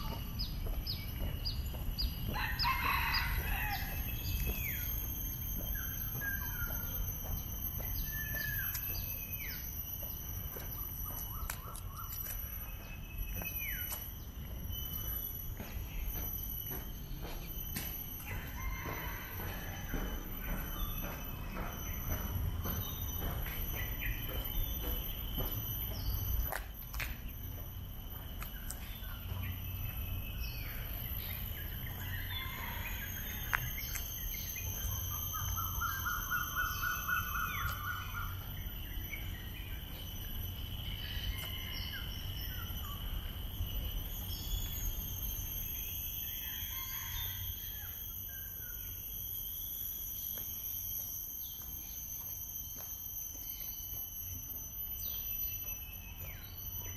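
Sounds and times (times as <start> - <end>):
bird trill: 0.0 - 50.8
insect drone: 0.0 - 56.9.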